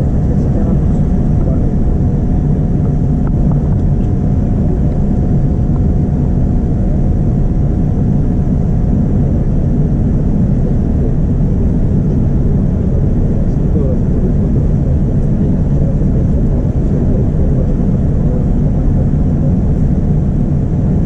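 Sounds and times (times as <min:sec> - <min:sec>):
faint steady whine: 0:00.0 - 0:21.0
jet engines rumbling in cabin: 0:00.0 - 0:21.0.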